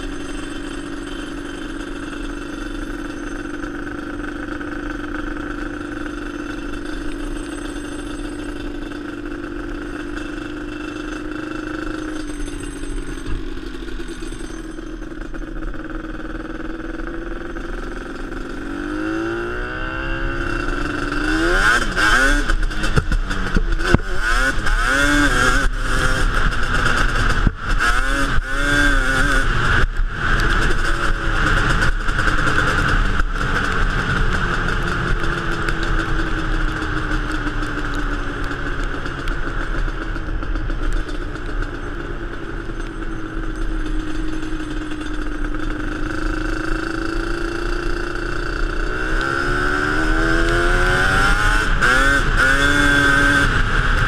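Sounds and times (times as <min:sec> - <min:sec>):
clatters and knocks: 0:00.0 - 0:18.6, 0:20.4 - 0:54.0
two-stroke engine revving: 0:00.0 - 0:54.0.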